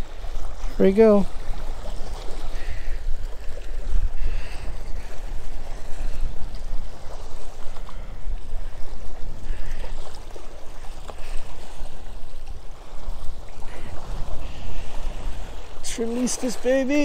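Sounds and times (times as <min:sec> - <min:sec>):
small waves lapping on rocks: 0:00.0 - 0:17.0
wind buffeting microphone: 0:00.0 - 0:17.0.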